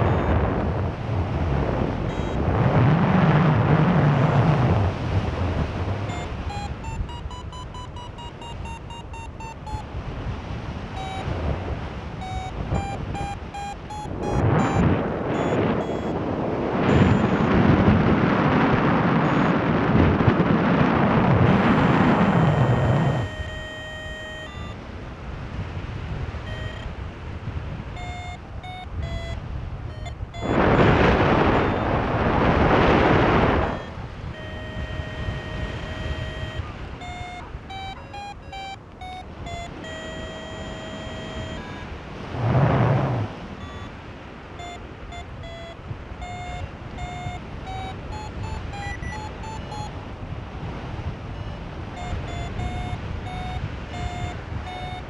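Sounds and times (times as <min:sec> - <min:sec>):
variometer beeping: 0:00.0 - 0:10.2, 0:10.8 - 0:25.1, 0:26.2 - 0:55.0
wind rush on microphone: 0:00.0 - 0:55.0.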